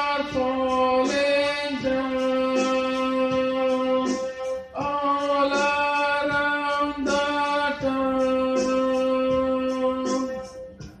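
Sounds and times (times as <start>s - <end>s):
man singing: 0.0s - 10.5s
electronic keyboard: 0.0s - 11.0s.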